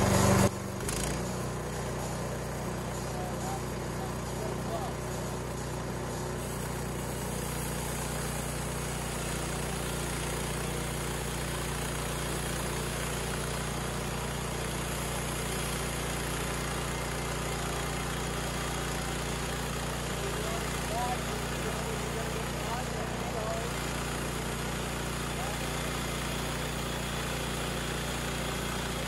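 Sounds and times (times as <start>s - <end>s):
band saw cutting log: 0.0s - 29.0s
gasoline engine running: 0.0s - 29.0s.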